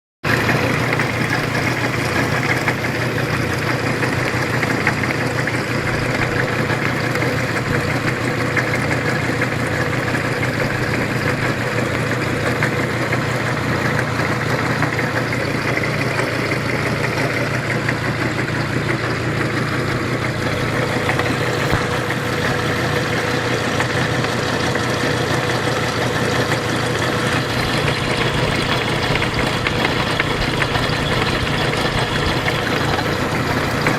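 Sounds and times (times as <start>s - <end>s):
car engine idling with knock: 0.2s - 33.9s.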